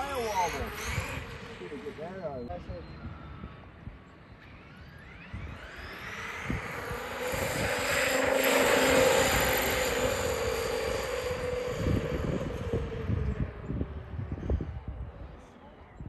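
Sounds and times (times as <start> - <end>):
rc truck motor whine: 0.0 - 14.7.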